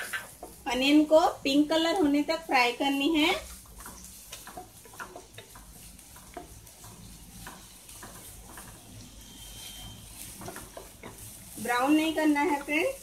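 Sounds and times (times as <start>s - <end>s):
wooden spatula scraping pan: 0.0s - 2.3s, 3.0s - 13.0s
onions sizzling in butter: 0.0s - 13.0s.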